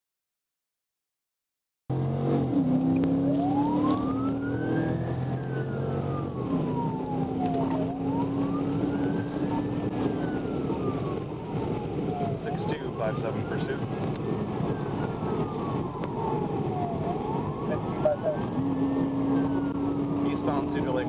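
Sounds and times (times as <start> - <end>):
car engine and road noise: 1.9 - 21.0
police siren wailing: 2.5 - 21.0.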